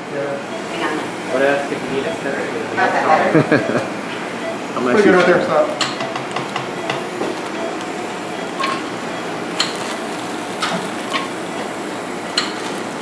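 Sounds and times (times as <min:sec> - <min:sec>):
operating room background noise: 0:00.0 - 0:13.0.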